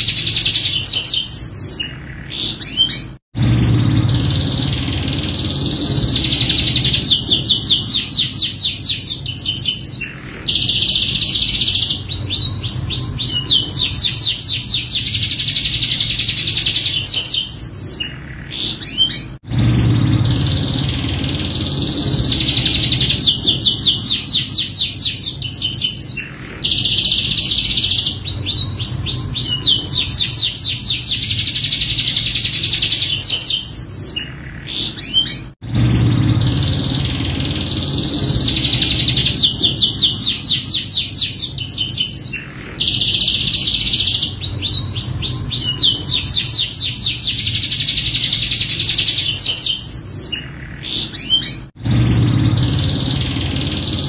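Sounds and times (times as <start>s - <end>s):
canary singing trills: 0.0s - 3.2s, 3.8s - 54.0s.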